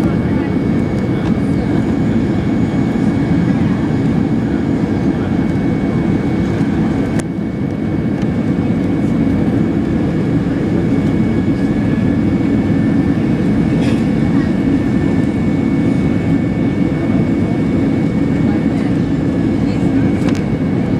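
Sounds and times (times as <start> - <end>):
airliner cabin engine rumble: 0.0 - 20.9.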